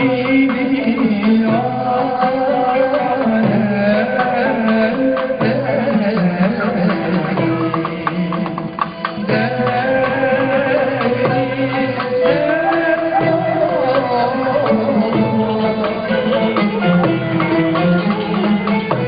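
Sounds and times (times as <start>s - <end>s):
cello: 0.0s - 19.0s
man singing: 0.0s - 19.0s
violin: 0.0s - 19.0s.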